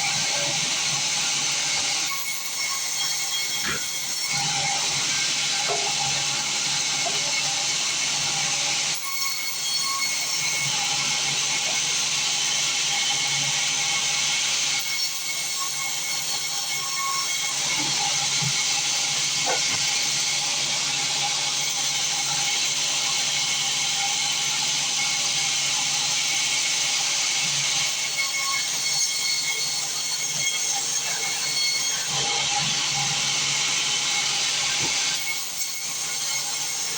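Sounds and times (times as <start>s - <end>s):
band saw running: 0.0s - 36.9s.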